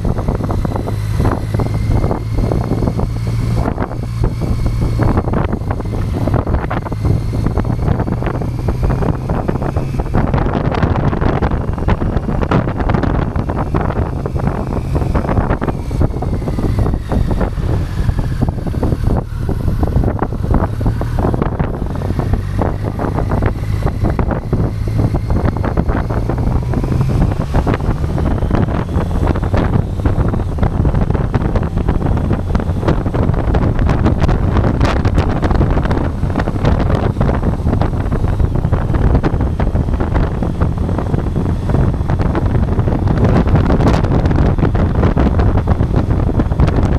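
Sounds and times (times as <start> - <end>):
motorcycle engine running: 0.0 - 46.9
wind buffeting microphone: 0.0 - 46.9.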